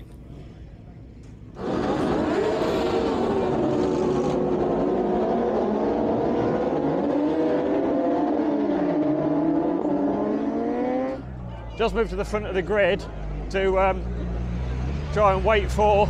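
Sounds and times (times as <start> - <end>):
motorbike engines revving: 0.7 - 16.0.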